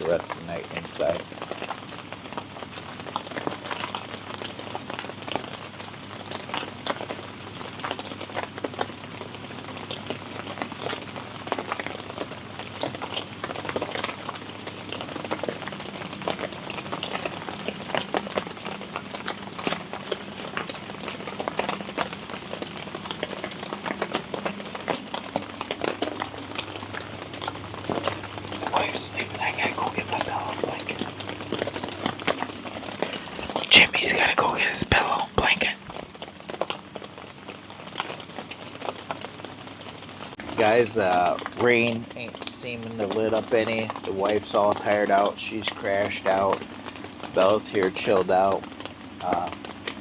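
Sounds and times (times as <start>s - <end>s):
rain on a tent: 0.0s - 50.0s.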